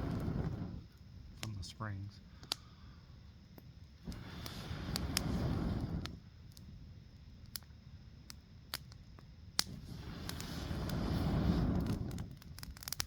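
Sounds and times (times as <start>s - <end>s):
low rush of noise: 0.0s - 12.6s
campfire crackling and popping: 0.0s - 13.0s.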